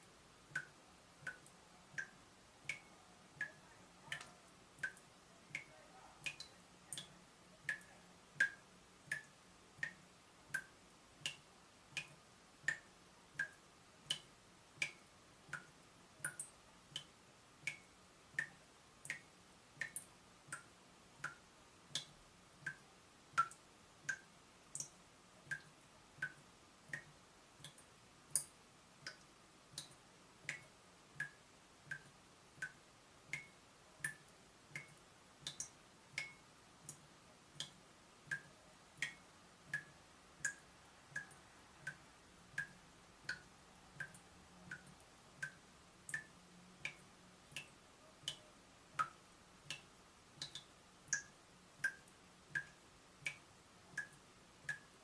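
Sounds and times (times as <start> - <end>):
water dripping from tap: 0.5 - 55.0.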